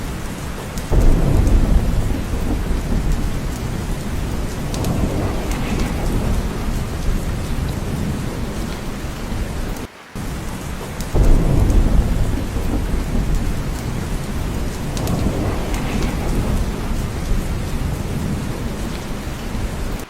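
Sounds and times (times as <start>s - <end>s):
heavy rain: 0.0s - 20.0s
thunder rumbling: 0.0s - 20.0s.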